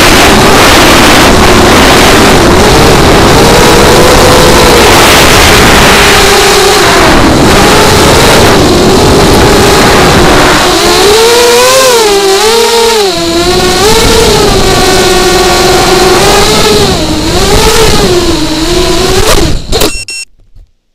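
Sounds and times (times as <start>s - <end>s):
rush of air noise: 0.0s - 19.8s
drone motors whining: 0.0s - 20.2s.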